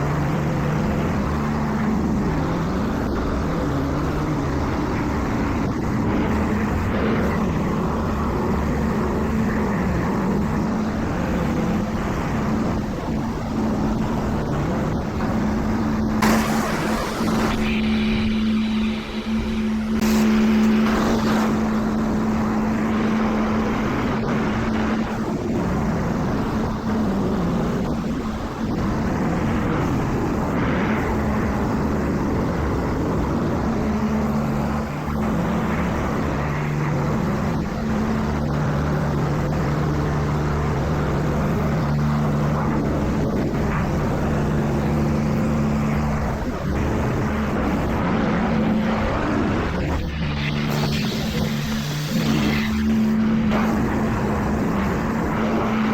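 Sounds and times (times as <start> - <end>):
low hum: 0.0 - 55.9
motor hum: 0.0 - 55.9
rushing water noise: 0.0 - 55.9.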